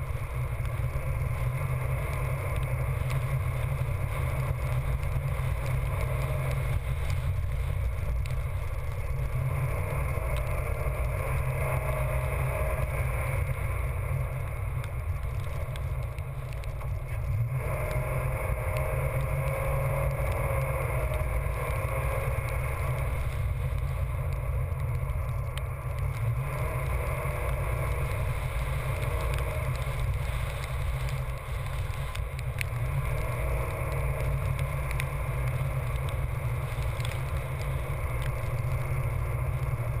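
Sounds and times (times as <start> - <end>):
vehicle driving at speed: 0.0 - 40.0.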